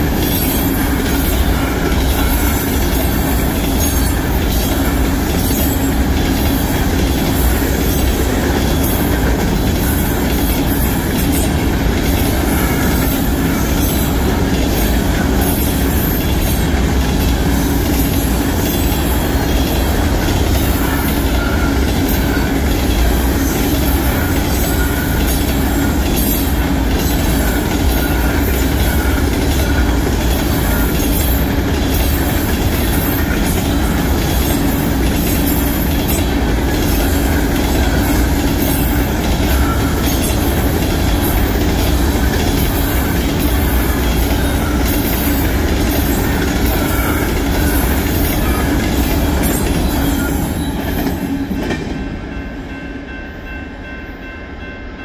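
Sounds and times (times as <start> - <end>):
train wheels clattering on rails: 0.0 - 54.8
freight train rumble: 0.0 - 55.0.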